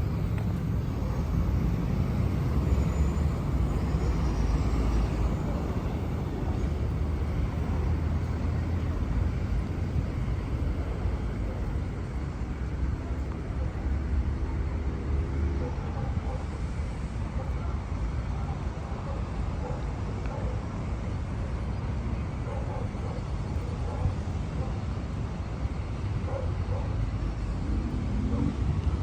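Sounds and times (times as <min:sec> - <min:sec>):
city street traffic rumble: 0:00.0 - 0:29.0.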